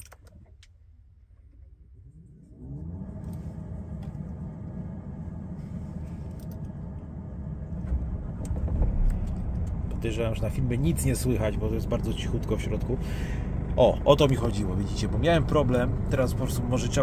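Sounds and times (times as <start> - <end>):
diesel engine starting and idling: 1.1 - 17.0.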